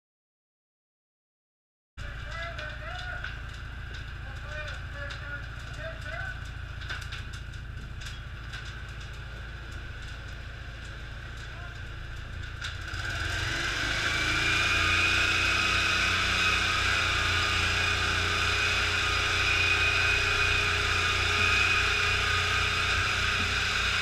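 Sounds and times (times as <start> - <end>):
ventilation fan running: 2.0 - 24.0.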